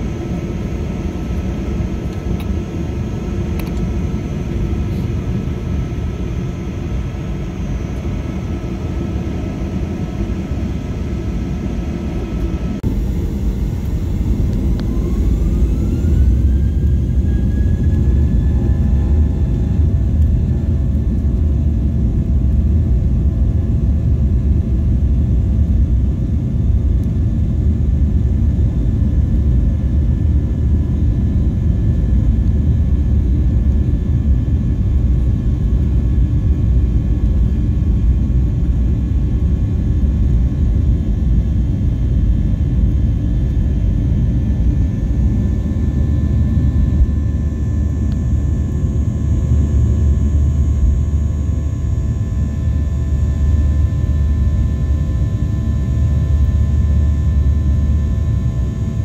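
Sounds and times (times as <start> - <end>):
jet engines rumbling: 0.0 - 59.0
rising engine whine: 0.0 - 59.0.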